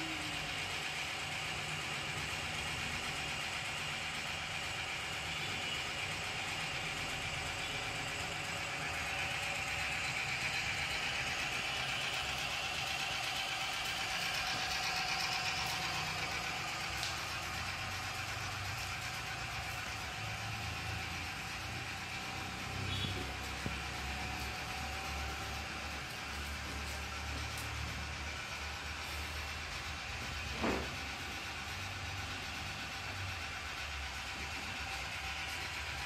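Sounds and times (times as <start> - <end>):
conveyor motor and belt running: 0.0 - 36.0.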